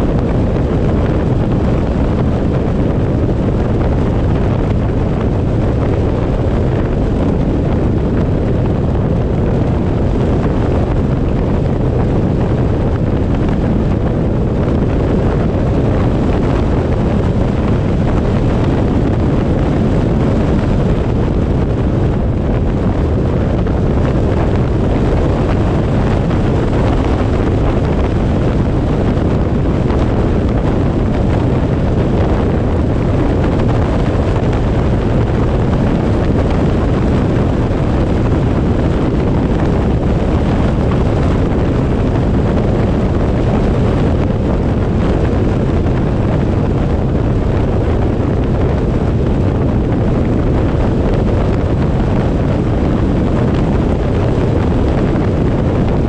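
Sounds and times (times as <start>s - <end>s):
road rumble: 0.0s - 56.0s
wind rushing over microphone: 0.0s - 56.0s.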